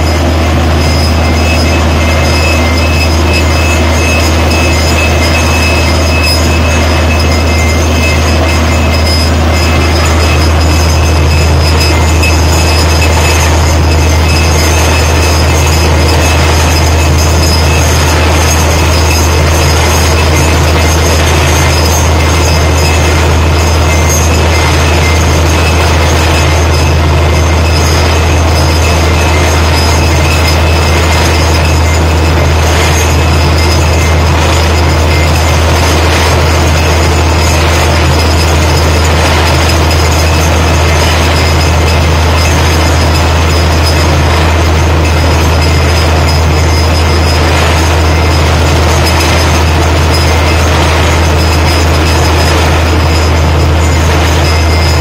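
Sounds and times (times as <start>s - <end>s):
compressor blowing water and air: 0.0s - 55.0s
deep engine drone: 0.0s - 55.0s
thin high whine: 0.0s - 55.0s.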